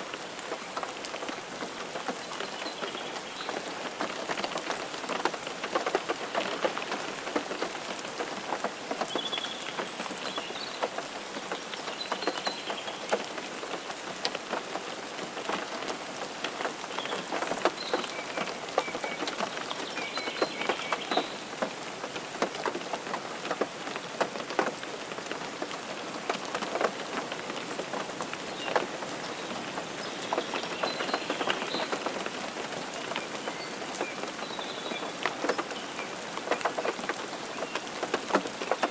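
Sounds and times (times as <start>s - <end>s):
rain on car roof: 0.0s - 38.9s.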